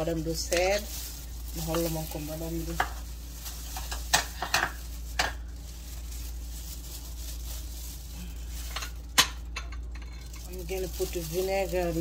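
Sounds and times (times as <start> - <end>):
low steady background hum: 0.0 - 12.0.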